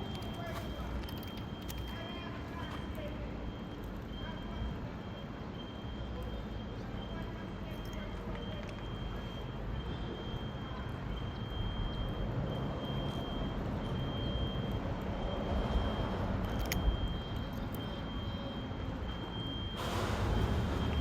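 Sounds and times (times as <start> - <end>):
distant motor traffic rumble: 0.0 - 21.0.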